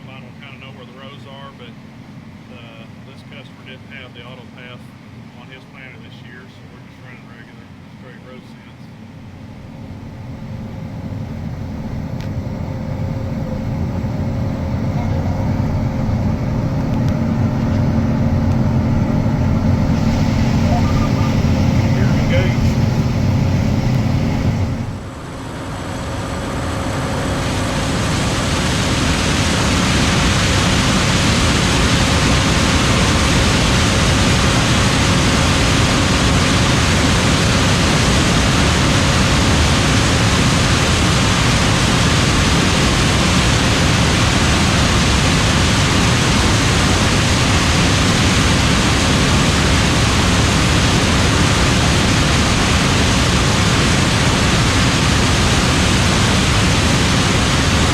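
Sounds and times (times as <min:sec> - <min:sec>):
combine harvester running: 0:09.3 - 0:57.9.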